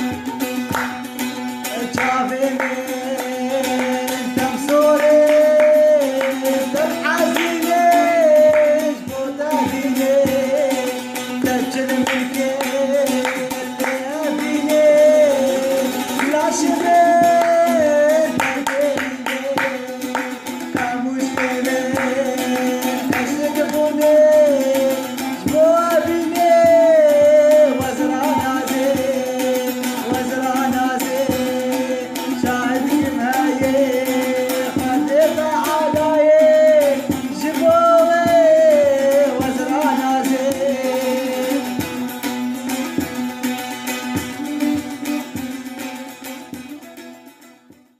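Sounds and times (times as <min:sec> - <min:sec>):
person singing: 0:00.0 - 0:46.2
hand drum percussion: 0:00.0 - 0:47.9.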